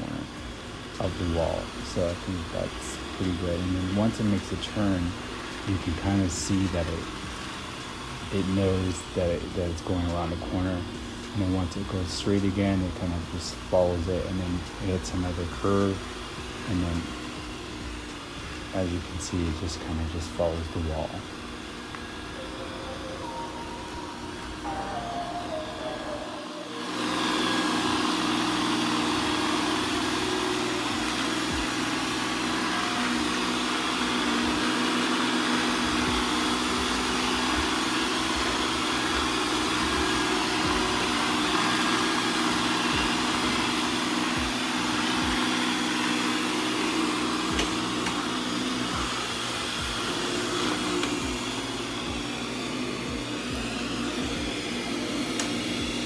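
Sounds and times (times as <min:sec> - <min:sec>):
robot vacuum running: 0:00.0 - 0:56.0.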